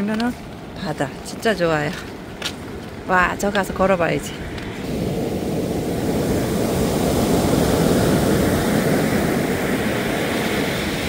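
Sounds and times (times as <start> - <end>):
sea surf washing on beach: 0.6 - 11.0.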